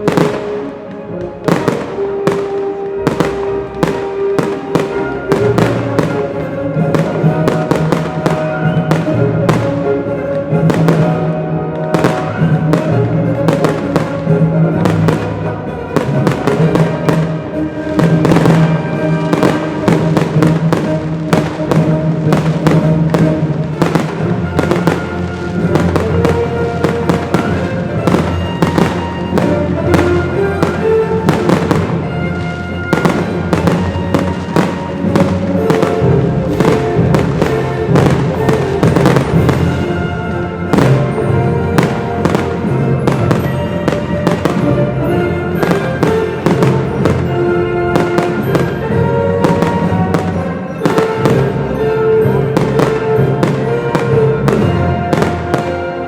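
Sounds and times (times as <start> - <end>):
fireworks banging: 0.0 - 56.0
music with sustained tones: 0.0 - 56.0.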